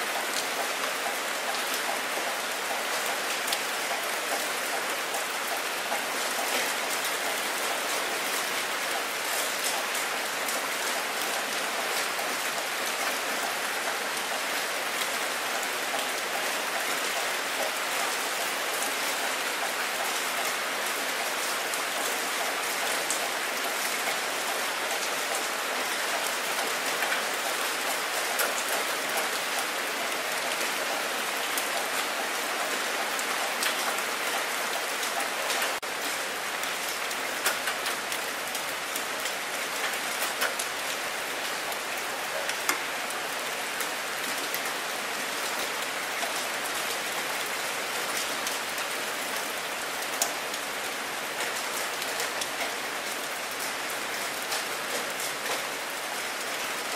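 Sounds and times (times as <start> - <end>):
rain falling on water: 0.0 - 56.9.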